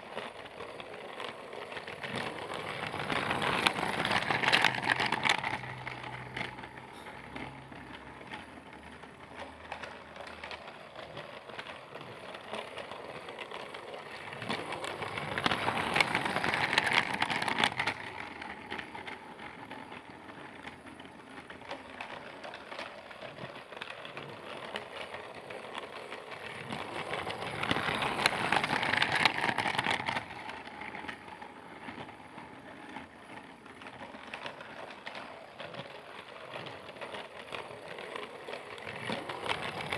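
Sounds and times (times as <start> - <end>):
toy train rattling and clicking: 0.0 - 39.9.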